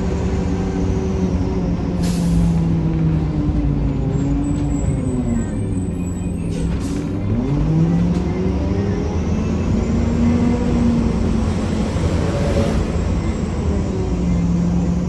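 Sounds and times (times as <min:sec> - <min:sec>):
bus diesel engine accelerating: 0:00.0 - 0:15.0.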